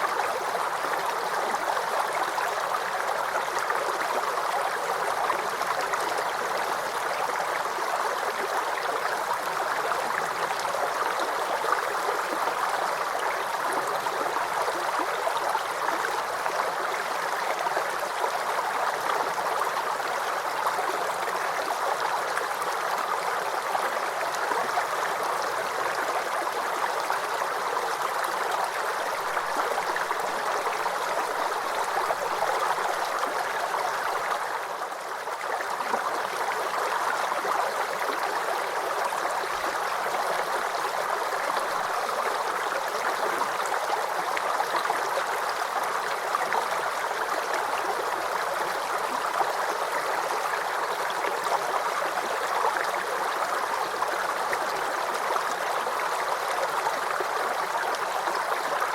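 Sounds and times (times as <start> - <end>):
creek babbling over stones: 0.0 - 58.9.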